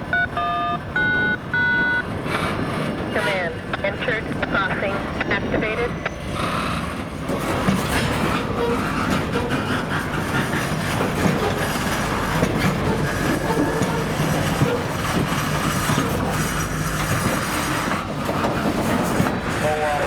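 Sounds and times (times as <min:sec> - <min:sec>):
freight train wheels clattering: 0:01.4 - 0:20.0.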